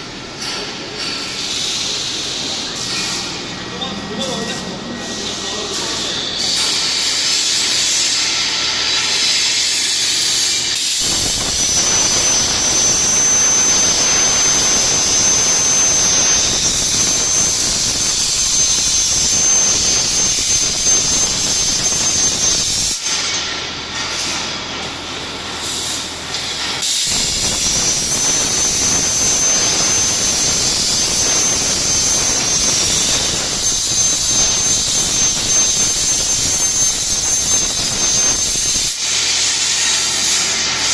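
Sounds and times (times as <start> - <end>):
plasma torch hissing: 5.8 - 23.5, 25.4 - 40.9.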